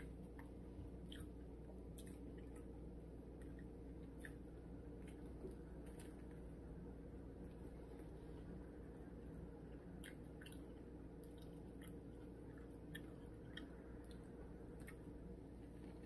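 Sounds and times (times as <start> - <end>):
person chewing: 0.0 - 6.5, 9.3 - 16.0
steady low hum: 0.0 - 16.0.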